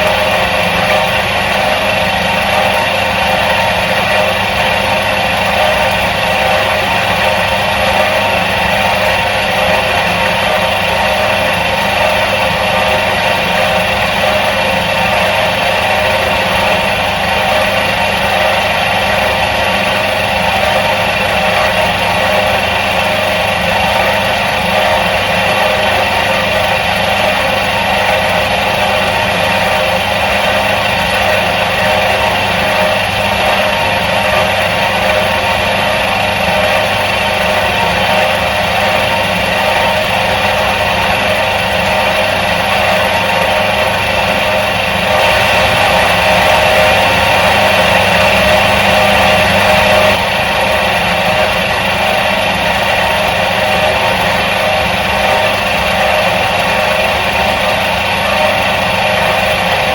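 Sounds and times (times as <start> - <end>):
washing machine motor humming: 0.0 - 59.9.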